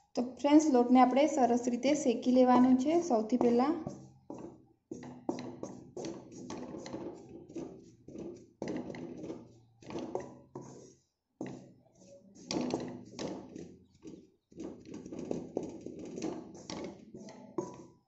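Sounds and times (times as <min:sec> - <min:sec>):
spatula scraping and knocking pan: 0:02.4 - 0:18.0.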